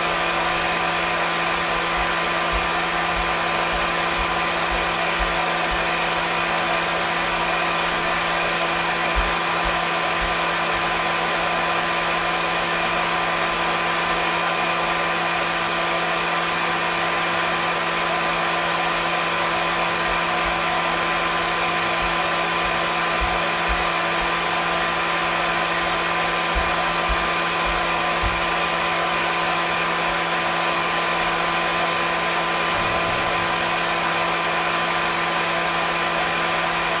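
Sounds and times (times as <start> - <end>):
hair dryer running: 0.0 - 37.0.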